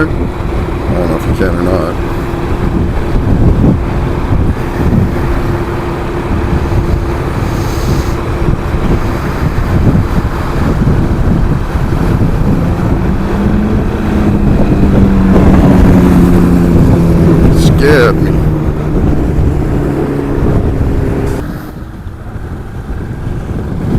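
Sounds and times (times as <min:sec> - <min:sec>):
low engine tone: 0:00.0 - 0:23.9
motorcycle engine running: 0:00.0 - 0:23.9
wind buffeting microphone: 0:00.0 - 0:23.9.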